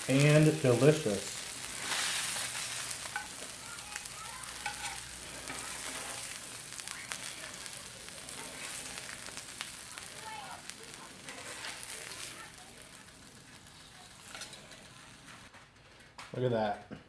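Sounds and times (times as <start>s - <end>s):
fish sizzling on a griddle: 0.0s - 15.5s
spattering fat crackles and pops: 0.0s - 16.3s.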